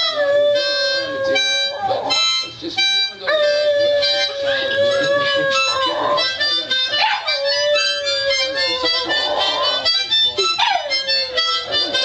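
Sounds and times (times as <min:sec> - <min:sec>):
puppy howling: 0:00.0 - 0:02.2, 0:03.3 - 0:11.9
harmonica playing chords: 0:00.0 - 0:12.0.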